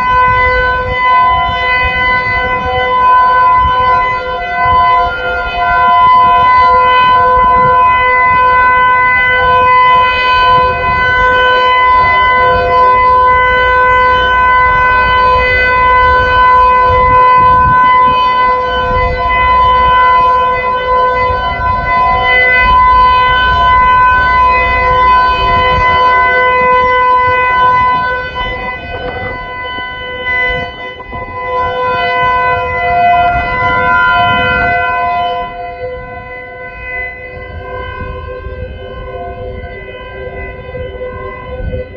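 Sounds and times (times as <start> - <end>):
tornado warning siren wailing: 0.0 - 41.9.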